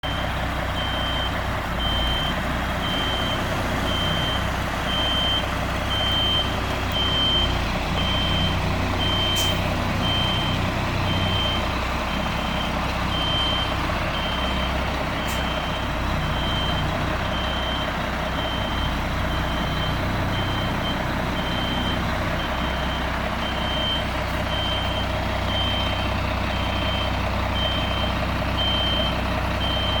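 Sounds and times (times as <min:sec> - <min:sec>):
truck back-up alarm beeping: 0:00.0 - 0:30.0
truck engine rumble: 0:00.0 - 0:30.0.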